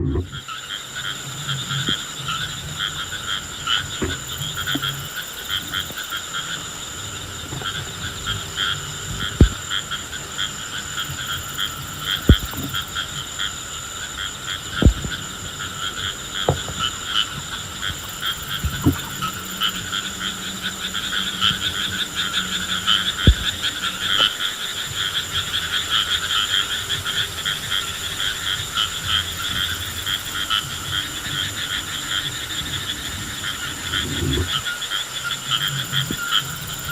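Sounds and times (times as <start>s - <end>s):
frogs calling in chorus: 0.0s - 36.9s.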